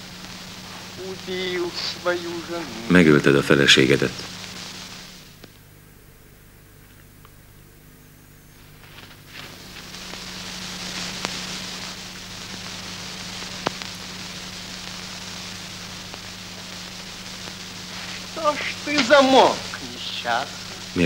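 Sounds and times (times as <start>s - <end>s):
film soundtrack hiss and crackle: 0.0s - 21.0s
low hum: 0.0s - 21.0s.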